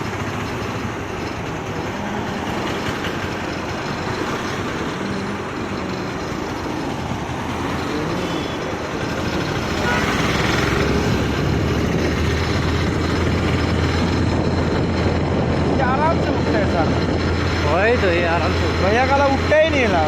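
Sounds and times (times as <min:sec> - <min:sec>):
motorcycle engine running: 0:00.0 - 0:20.0
steady noise: 0:00.0 - 0:20.0.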